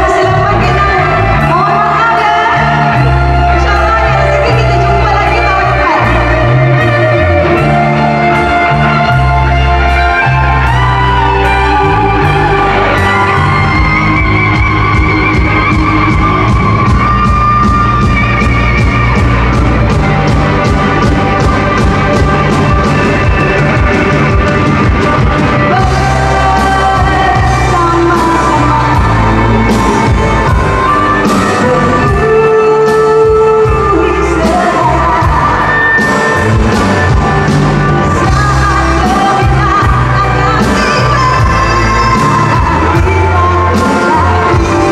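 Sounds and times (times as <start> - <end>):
electric bass guitar: 0.0 - 44.9
electric guitars: 0.0 - 44.9
woman singing: 0.0 - 44.9.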